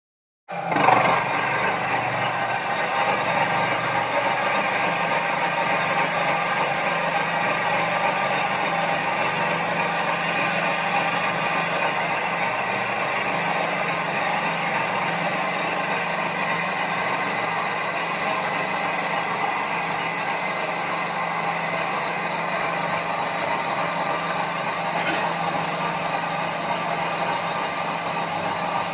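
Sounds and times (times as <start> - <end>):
machine whirring: 0.5 - 28.9.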